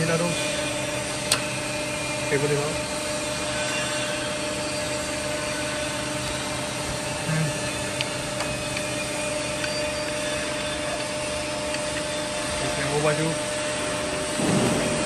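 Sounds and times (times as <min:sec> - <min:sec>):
grinder motor whirring: 0:00.0 - 0:14.4.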